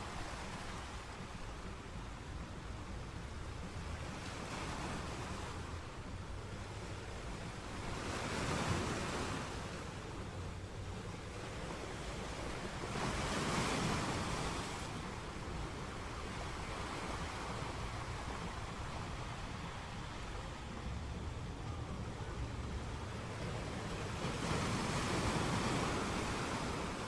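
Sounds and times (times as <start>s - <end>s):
waves washing onto shore: 0.0s - 27.0s.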